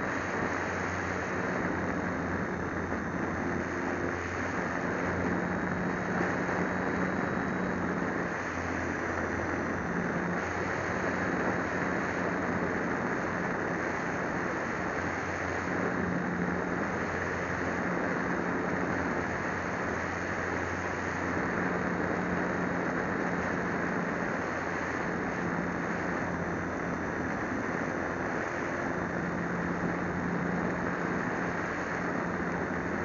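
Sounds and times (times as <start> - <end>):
model plane motor droning: 0.0 - 33.0.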